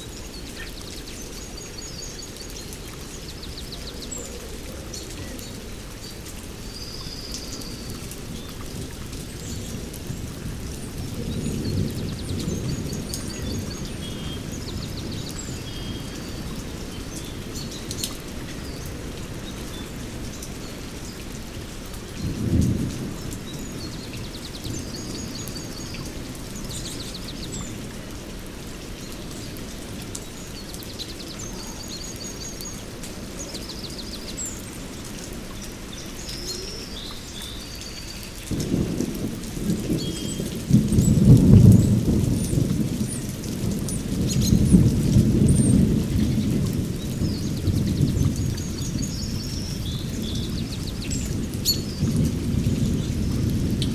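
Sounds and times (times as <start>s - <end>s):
low rumble of thunder: 0.0s - 34.4s, 38.2s - 53.9s
steady rain: 0.0s - 53.9s.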